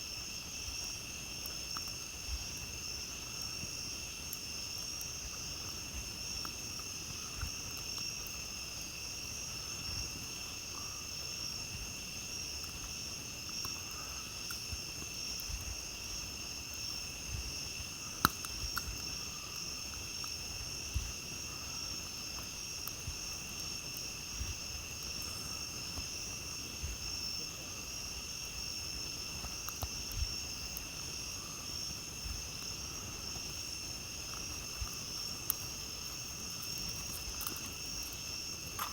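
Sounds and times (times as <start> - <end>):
night insects chorus: 0.0 - 38.9
campfire crackling and popping: 0.1 - 38.9.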